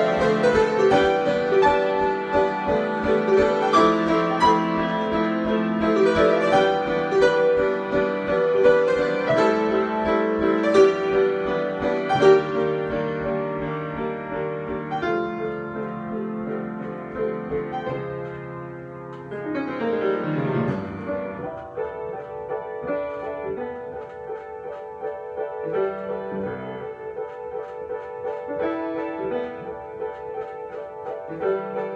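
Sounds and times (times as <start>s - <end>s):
solo piano: 0.0s - 31.9s.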